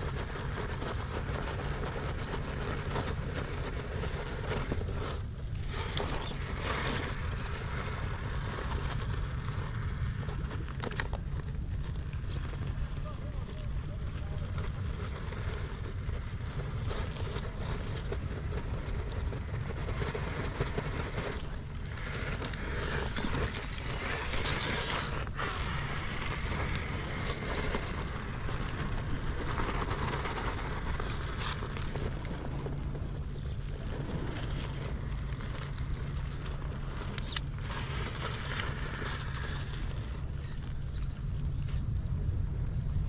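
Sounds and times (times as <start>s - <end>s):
toy motor and gears whirring: 0.0s - 43.0s.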